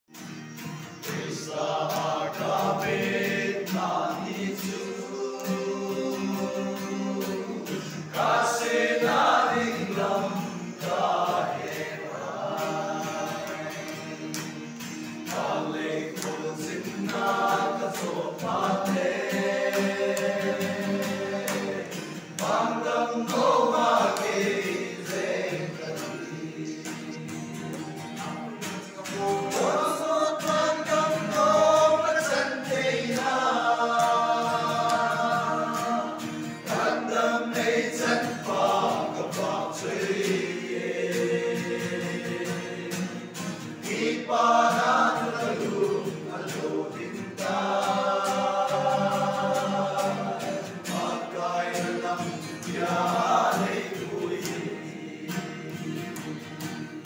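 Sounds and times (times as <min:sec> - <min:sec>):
young men singing a hymn: 0:00.9 - 0:56.8.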